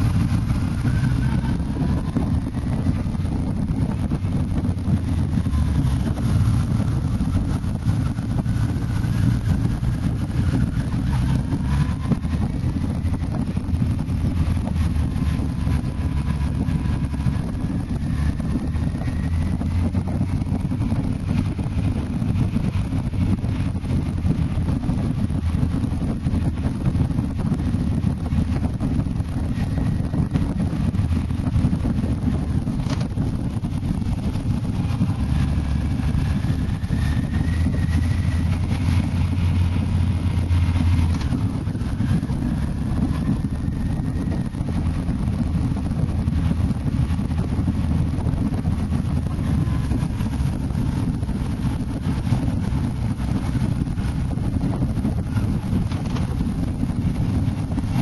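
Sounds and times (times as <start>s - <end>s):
motorcycle engine drone: 0.0s - 58.0s
wind buffeting microphone: 0.0s - 58.0s.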